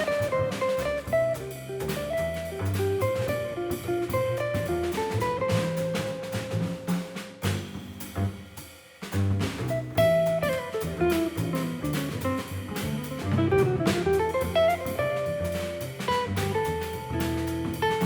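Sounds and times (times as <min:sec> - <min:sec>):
guitar melody: 0:00.0 - 0:06.9, 0:09.9 - 0:18.0
walking bass: 0:00.0 - 0:18.0.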